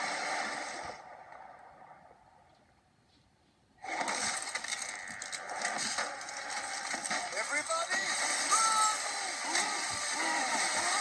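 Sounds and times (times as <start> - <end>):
videos playing through computer speakers: 0.0 - 11.0.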